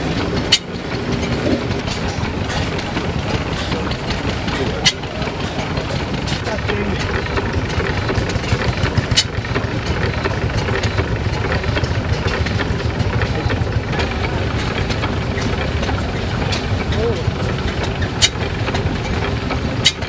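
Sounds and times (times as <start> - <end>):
stationary engine running: 0.0 - 20.0
valve gear clicking: 0.1 - 20.0.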